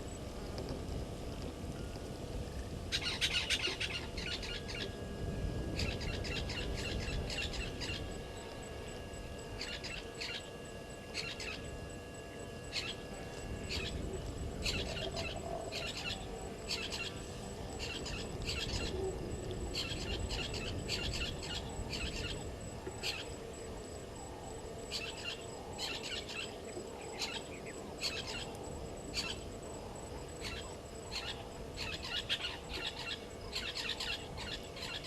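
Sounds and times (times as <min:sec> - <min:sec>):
low background rumble: 0:00.0 - 0:35.0
birds chirping: 0:05.7 - 0:23.7, 0:24.5 - 0:35.0.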